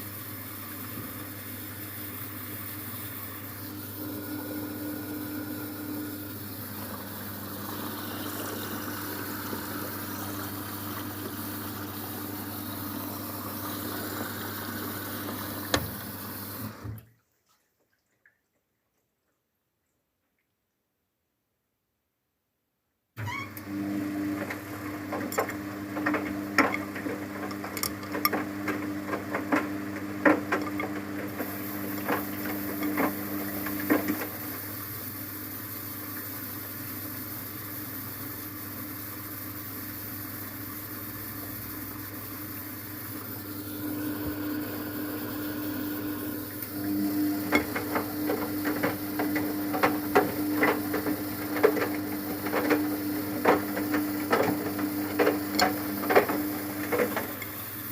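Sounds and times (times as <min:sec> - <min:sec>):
washing machine motor hum: 0:00.0 - 0:17.1, 0:23.2 - 0:57.9.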